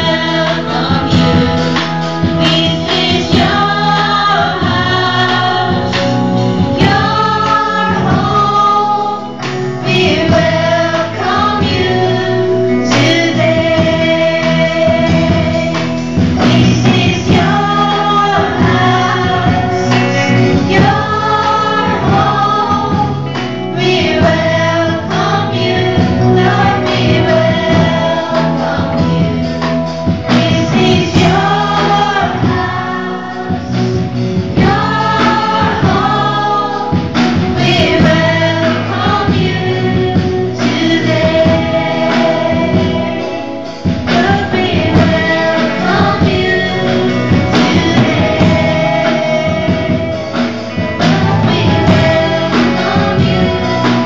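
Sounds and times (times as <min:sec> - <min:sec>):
drum kit: 0:00.0 - 0:54.0
guitar: 0:00.0 - 0:54.0
keyboards: 0:00.0 - 0:54.0
voices singing along: 0:00.0 - 0:54.0
woman singing lead: 0:00.0 - 0:54.0.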